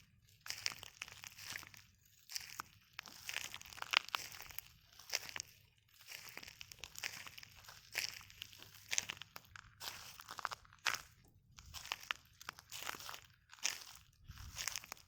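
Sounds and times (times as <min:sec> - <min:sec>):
footsteps crunching on shells: 0:00.4 - 0:15.0.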